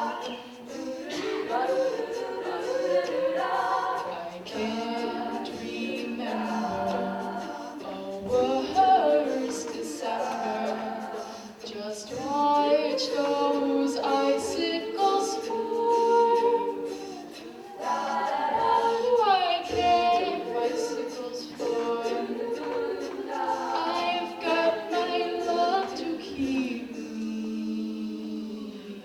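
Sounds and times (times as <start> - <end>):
a cappella group singing in harmony: 0.0 - 29.0.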